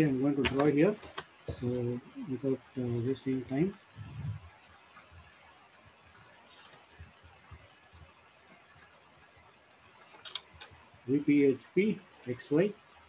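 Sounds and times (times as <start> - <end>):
sharp clicks: 0.4 - 11.0.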